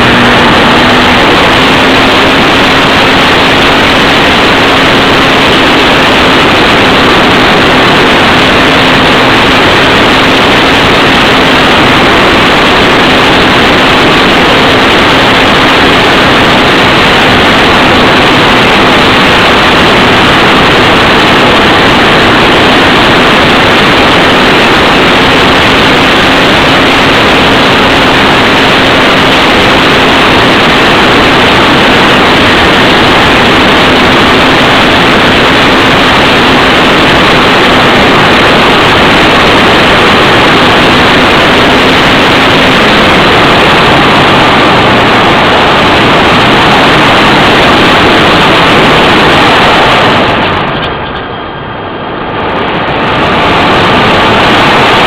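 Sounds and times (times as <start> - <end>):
model plane motor droning: 0.0 - 50.3
wind rush: 0.0 - 55.0.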